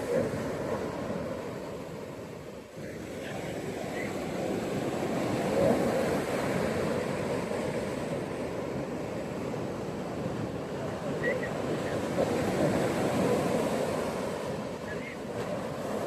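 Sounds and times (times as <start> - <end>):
ocean waves washing onto beach: 0.0 - 16.0.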